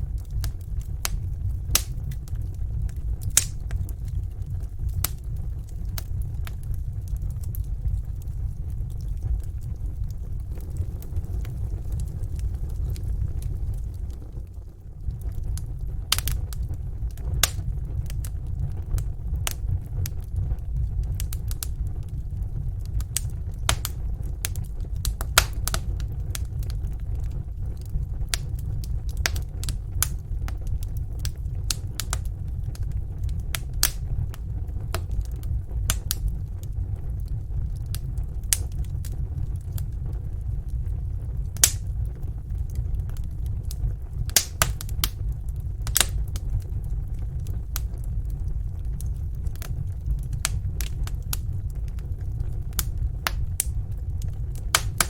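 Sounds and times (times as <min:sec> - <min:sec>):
fire pops and snaps: 0:00.0 - 0:55.0
low rumble of flames: 0:00.0 - 0:55.0.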